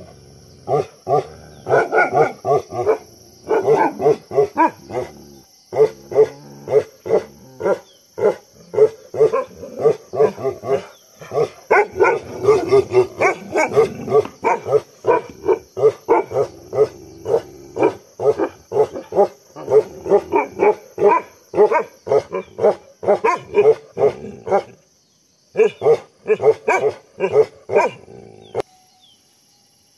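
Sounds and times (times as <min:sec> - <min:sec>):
dog barking rapidly: 0:00.7 - 0:05.1, 0:05.8 - 0:24.7, 0:25.6 - 0:28.0.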